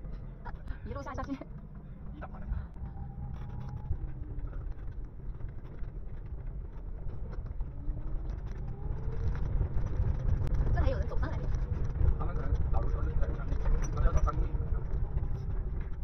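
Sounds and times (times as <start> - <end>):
van engine low rumble: 0.0 - 16.0.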